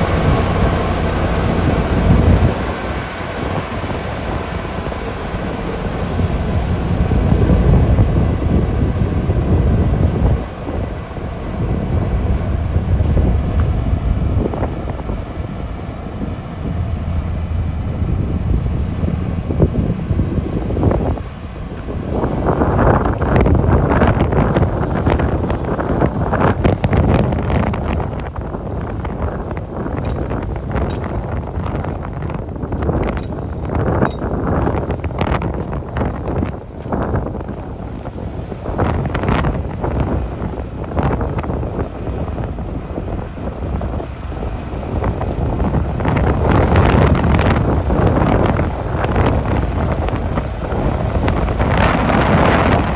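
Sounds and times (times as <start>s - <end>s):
bulldozer diesel engine running: 0.0s - 52.9s
wind buffeting microphone: 0.0s - 52.9s.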